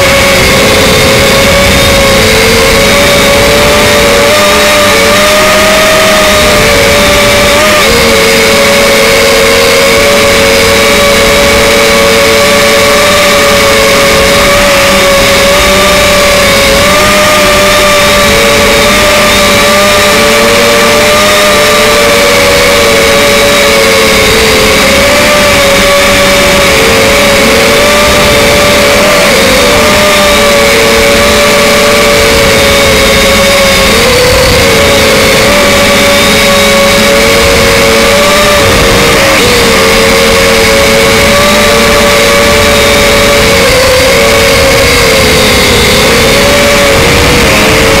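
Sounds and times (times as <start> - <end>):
drone motors whining: 0.0 - 48.0.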